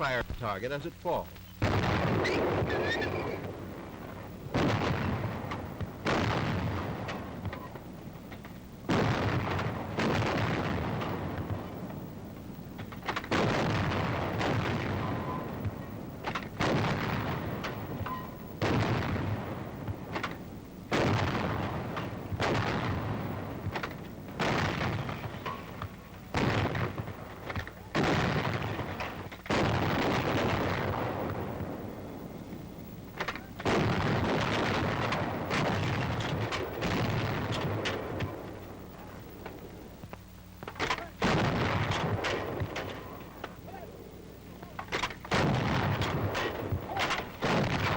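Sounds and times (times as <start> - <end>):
antiaircraft guns firing: 1.6 - 40.0, 40.6 - 47.9.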